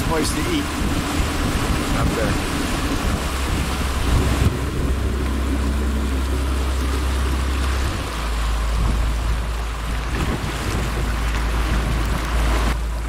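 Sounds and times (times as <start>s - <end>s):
boat engine droning: 0.0s - 13.0s
water rushing along hull: 0.0s - 13.0s.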